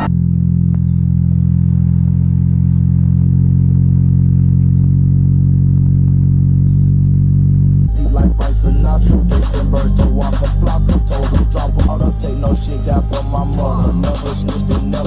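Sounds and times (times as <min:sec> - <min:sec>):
deep electronic bass notes: 0:00.0 - 0:15.0.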